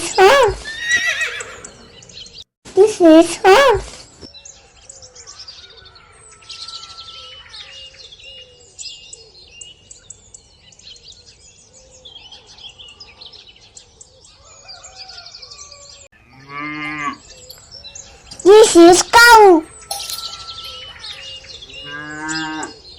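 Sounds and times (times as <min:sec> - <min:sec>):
small birds chirping and trilling: 0:00.2 - 0:02.5, 0:03.8 - 0:22.9.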